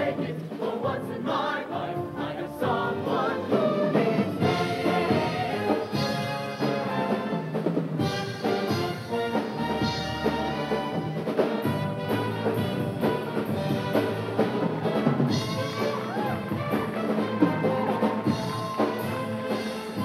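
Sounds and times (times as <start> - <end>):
brass band music with drums: 0.0 - 20.0.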